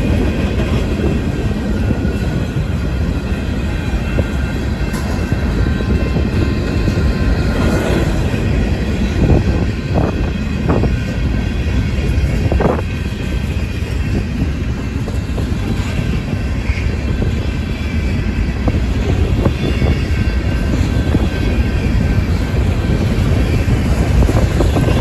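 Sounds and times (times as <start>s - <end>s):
freight train cars rolling: 0.0s - 25.0s.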